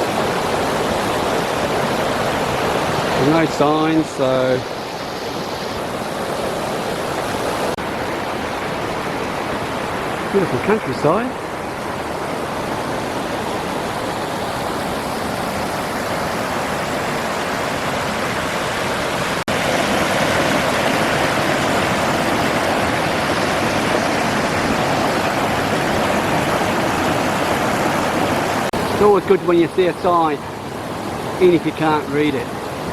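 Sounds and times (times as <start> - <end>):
stream rushing over cascades: 0.0 - 32.9.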